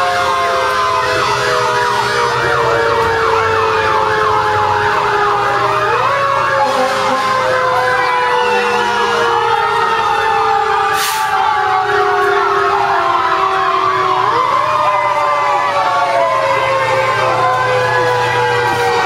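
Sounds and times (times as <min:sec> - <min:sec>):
siren wailing: 0:00.0 - 0:19.0
siren yelping fast: 0:00.0 - 0:19.0.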